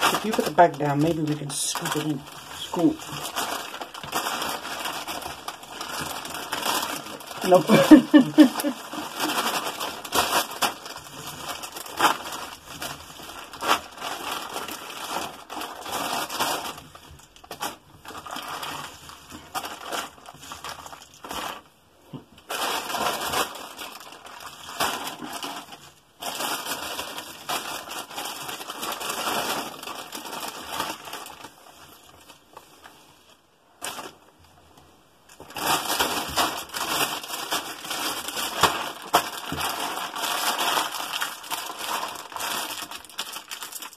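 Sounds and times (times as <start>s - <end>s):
plastic bag crinkling: 0.0s - 43.9s.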